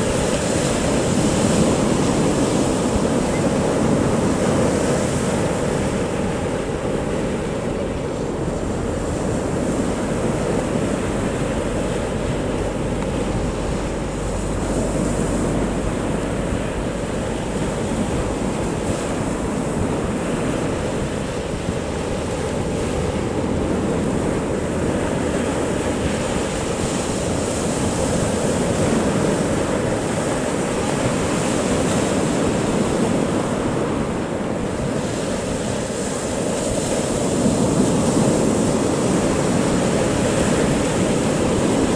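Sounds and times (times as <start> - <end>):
sea waves breaking on beach: 0.0 - 41.9
wind rumbling on microphone: 0.0 - 41.9.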